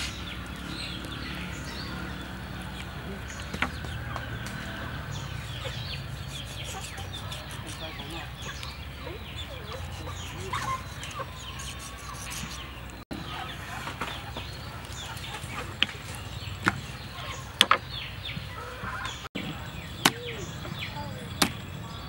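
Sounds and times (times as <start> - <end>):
chickens clucking: 0.0 - 21.6.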